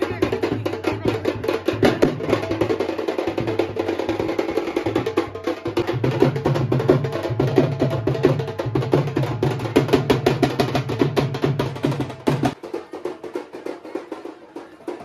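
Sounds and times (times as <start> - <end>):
deeper drum beat: 0.0 - 15.0
fast procession drumming: 0.0 - 15.0.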